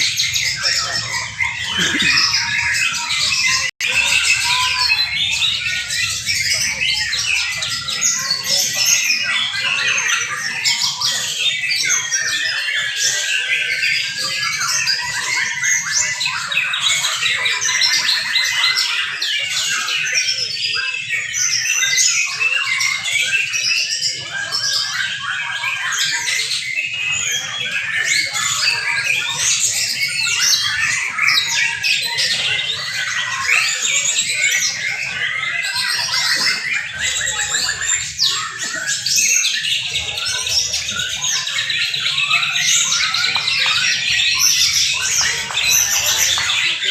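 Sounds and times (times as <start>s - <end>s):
chorus of birds singing: 0.0s - 46.9s.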